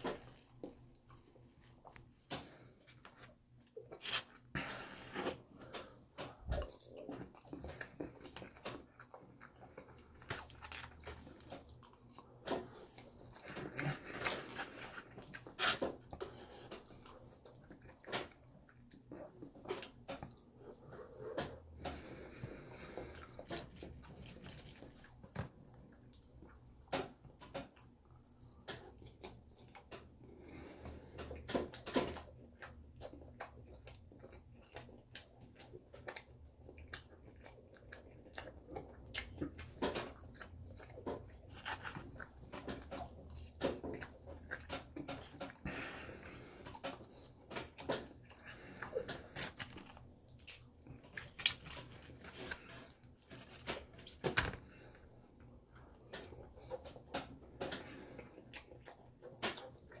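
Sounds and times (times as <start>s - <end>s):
person chewing: 0.0s - 60.0s.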